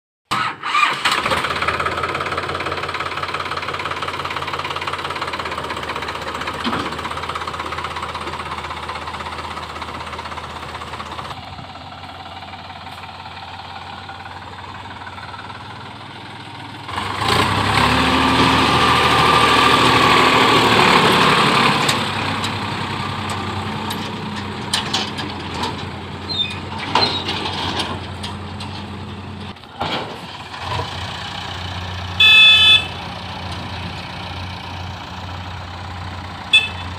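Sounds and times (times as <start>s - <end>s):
diesel engine running: 0.3s - 36.9s.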